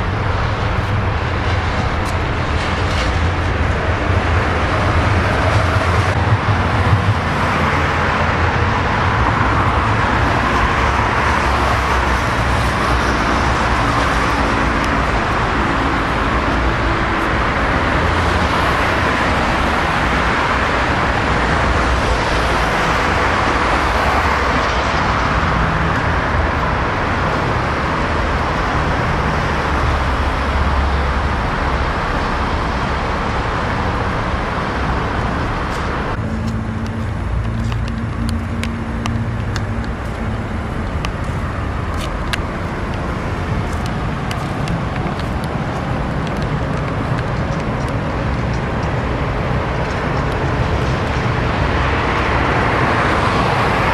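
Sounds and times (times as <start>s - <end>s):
low engine hum: 0.0s - 53.9s
road traffic rushing hiss: 0.0s - 53.9s.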